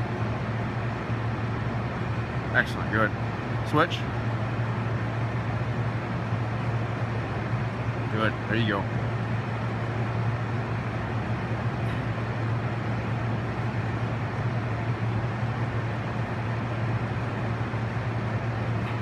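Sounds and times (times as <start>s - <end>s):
ventilation hum and hiss: 0.0s - 19.0s.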